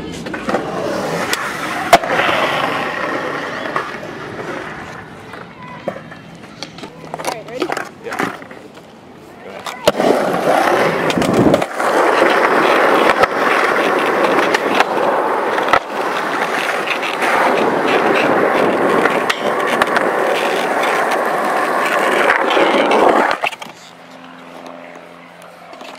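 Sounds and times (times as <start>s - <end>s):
skateboard wheels rolling on concrete: 0.0s - 25.9s.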